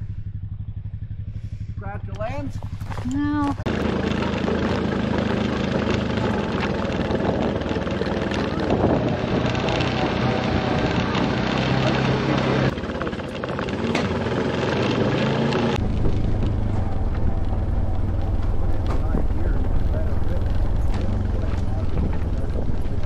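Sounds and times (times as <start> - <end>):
off-road vehicle engine running: 0.0 - 23.0
trail and wind rumble: 0.0 - 23.0.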